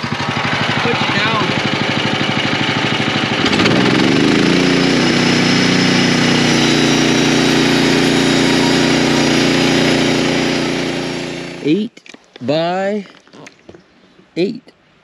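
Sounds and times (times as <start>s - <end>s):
saw blade cutting wood: 0.0s - 12.8s
gas engine revving: 0.0s - 13.0s.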